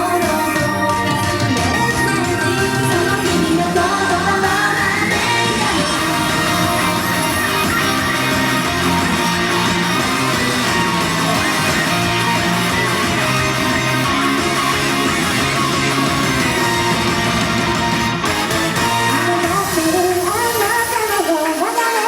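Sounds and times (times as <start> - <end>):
rock pop instrumental: 0.0 - 21.3
electric guitar: 0.0 - 21.6.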